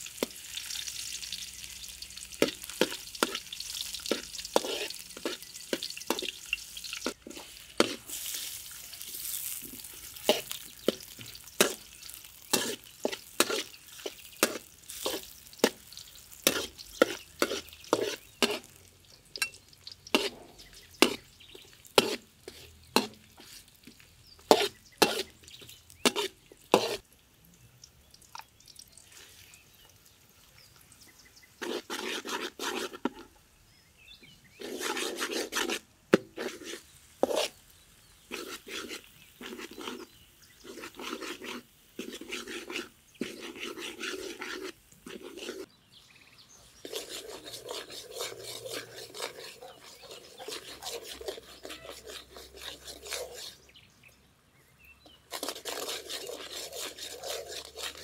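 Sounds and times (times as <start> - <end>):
sizzling in a wok: 0.0 - 45.7, 46.4 - 53.7, 55.1 - 58.0
metal spatula scraping a wok: 0.1 - 27.0, 31.6 - 33.3, 34.6 - 45.7, 46.7 - 53.7, 55.0 - 58.0.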